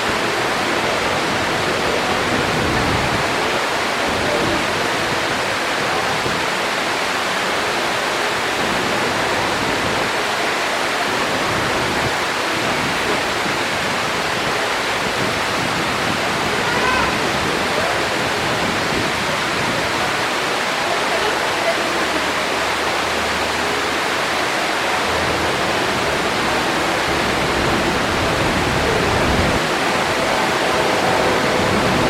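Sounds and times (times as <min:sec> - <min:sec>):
waterfall pouring: 0:00.0 - 0:32.0.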